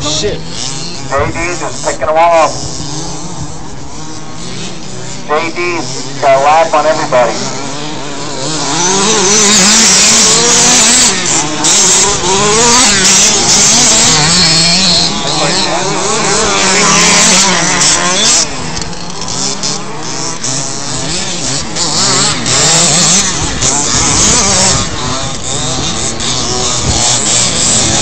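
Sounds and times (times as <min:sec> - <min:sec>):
rc car motors whining: 0:00.0 - 0:28.0.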